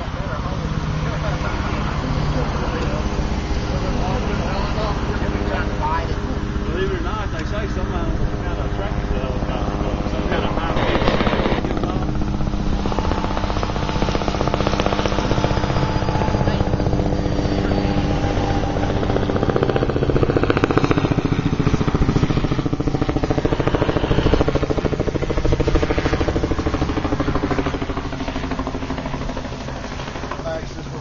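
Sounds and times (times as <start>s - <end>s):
turbine drone: 0.0s - 31.0s
helicopter rotor thudding: 0.3s - 31.0s.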